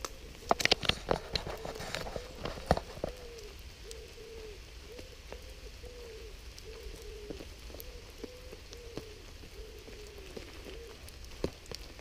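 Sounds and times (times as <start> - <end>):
pigeon cooing: 0.0 - 11.6
rain dripping and pattering: 0.0 - 12.0.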